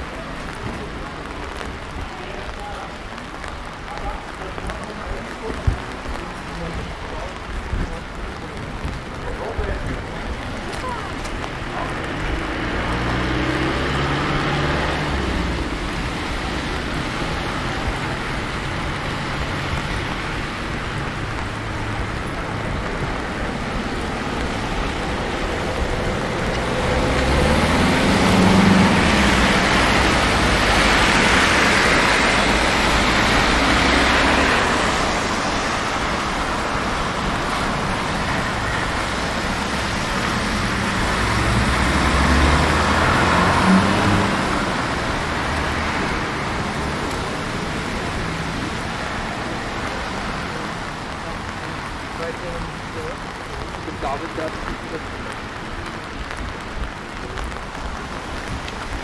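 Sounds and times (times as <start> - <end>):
tyres hissing on wet road: 0.0 - 59.0
vehicles passing close: 0.0 - 59.0.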